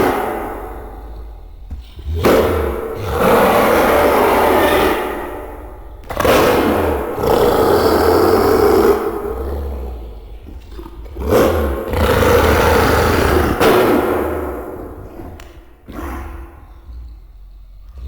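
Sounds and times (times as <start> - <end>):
monster ape roar: 0.0 - 17.4.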